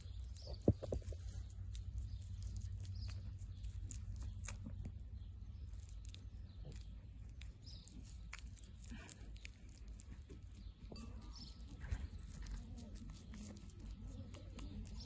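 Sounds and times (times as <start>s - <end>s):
goat chewing apple: 0.0s - 15.0s
steady low rumble: 0.0s - 15.0s.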